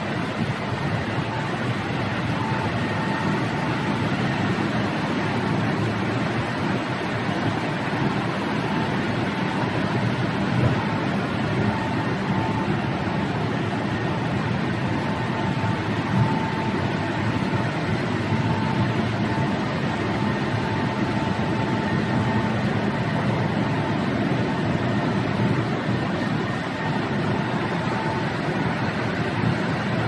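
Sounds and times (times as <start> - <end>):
car wash spraying water: 0.0 - 30.0
faint high whine: 0.0 - 30.0.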